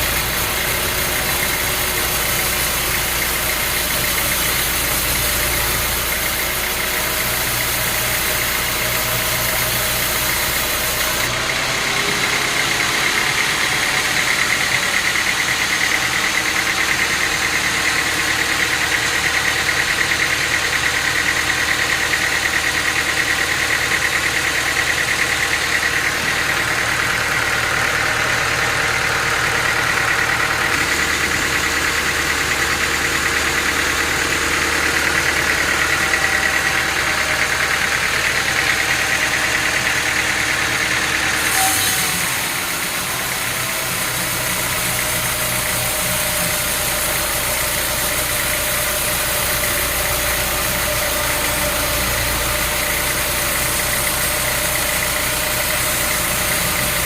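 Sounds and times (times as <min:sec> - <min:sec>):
engine-driven machinery running: 0:00.0 - 0:57.0.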